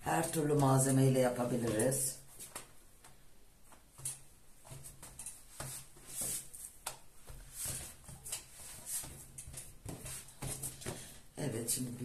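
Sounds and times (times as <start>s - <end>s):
hands folding dough: 0.0s - 11.4s.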